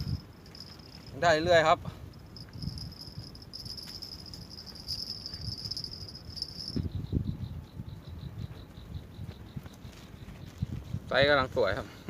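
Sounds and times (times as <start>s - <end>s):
insect high trill: 0.0s - 10.2s.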